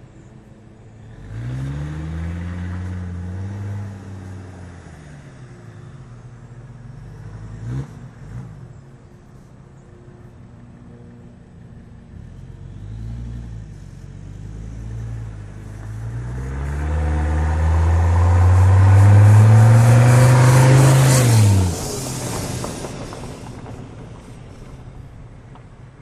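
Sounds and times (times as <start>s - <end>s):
diesel car driving by: 0.0s - 26.0s.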